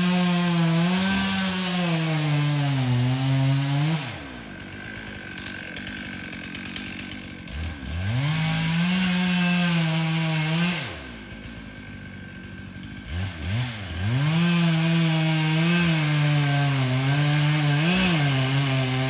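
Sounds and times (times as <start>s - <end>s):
chainsaw cutting wood: 0.0s - 19.0s
chainsaw idling: 0.0s - 19.0s.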